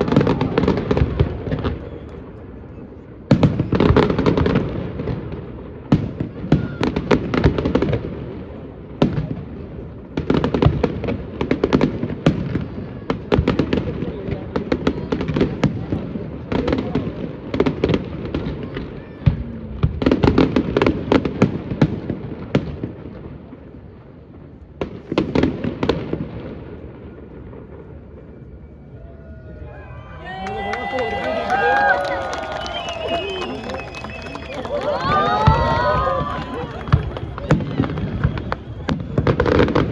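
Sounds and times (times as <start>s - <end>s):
fireworks bangs and crackles: 0.0s - 29.7s, 30.3s - 39.9s.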